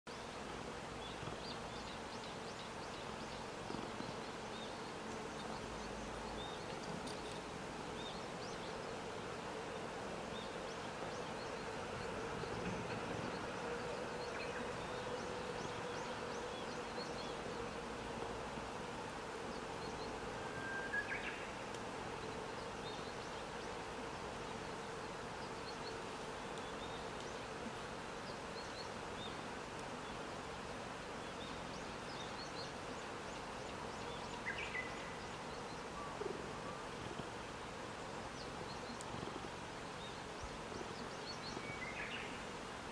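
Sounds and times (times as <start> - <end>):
insect buzz: 0.1 - 42.9.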